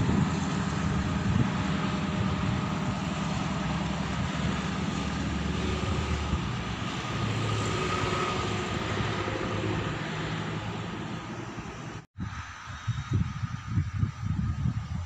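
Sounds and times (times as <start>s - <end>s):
distant diesel train engine drone: 0.0s - 15.0s.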